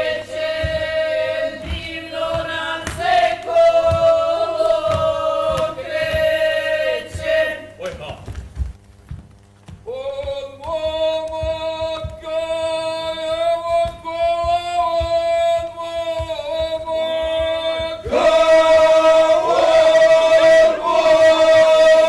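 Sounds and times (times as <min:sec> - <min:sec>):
folk singers holding long note: 0:00.0 - 0:07.8, 0:09.9 - 0:22.0
feet thumping on stage: 0:00.0 - 0:22.0.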